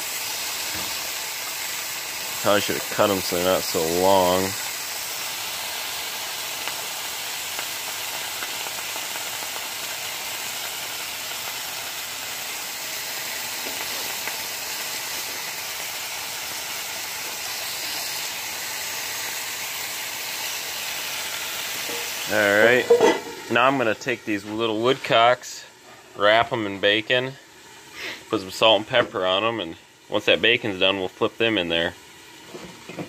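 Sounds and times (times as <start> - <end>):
bacon sizzling in skillet: 0.0 - 33.0.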